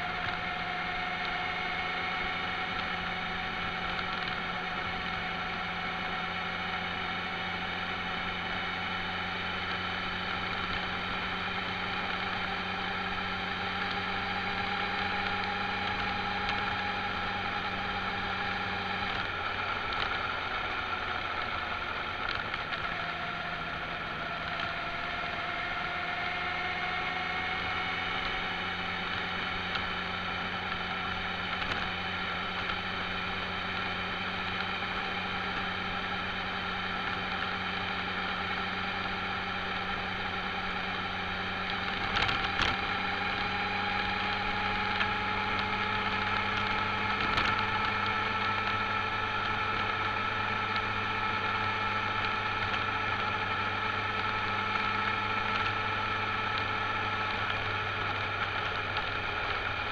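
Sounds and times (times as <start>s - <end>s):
road noise: 0.0s - 59.9s
vehicle engine whining: 0.0s - 59.9s.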